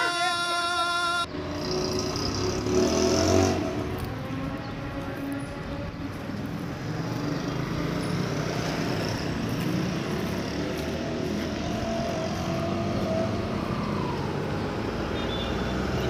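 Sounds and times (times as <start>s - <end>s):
motorcycle passing: 1.2s - 16.0s
vehicle engines running: 1.2s - 16.0s.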